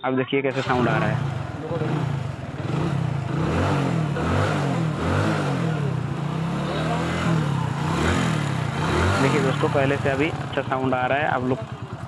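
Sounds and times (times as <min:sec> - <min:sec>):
motorcycle engine running: 0:00.5 - 0:12.0.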